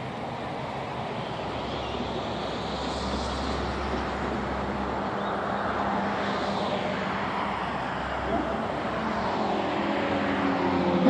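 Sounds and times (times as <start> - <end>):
outdoor noise: 0.0 - 11.0
vehicle engine humming: 0.0 - 11.0.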